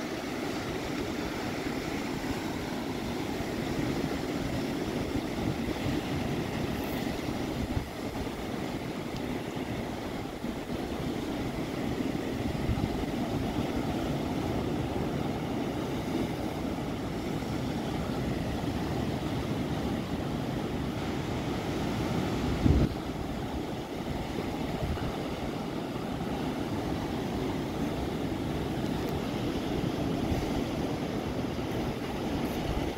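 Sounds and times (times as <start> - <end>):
surf breaking over rocks: 0.0 - 32.9.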